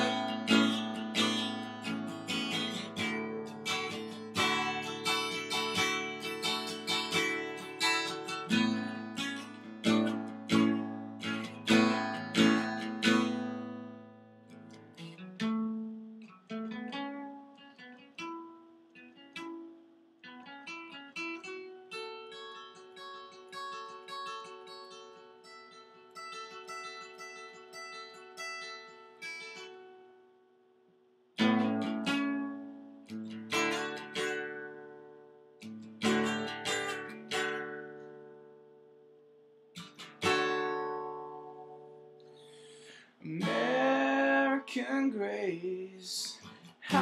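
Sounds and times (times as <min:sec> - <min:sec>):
acoustic guitar strummed chords: 0:00.0 - 0:30.4, 0:31.4 - 0:47.0
acoustic guitar picked notes: 0:00.0 - 0:47.0.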